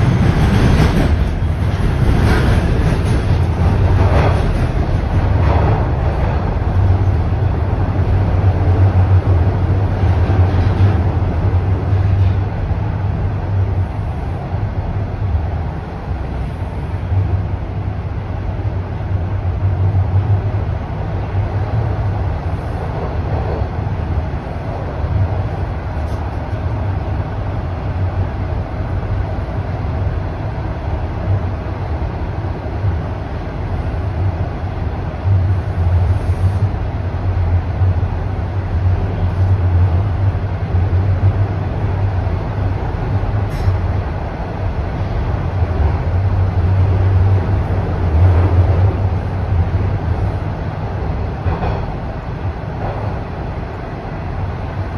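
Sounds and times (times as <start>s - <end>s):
subway train rumble in tunnel: 0.0s - 54.9s.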